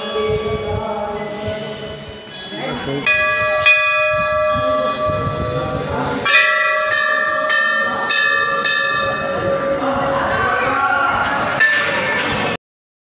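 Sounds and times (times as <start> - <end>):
temple bell ringing: 0.0 - 10.4, 11.4 - 12.6.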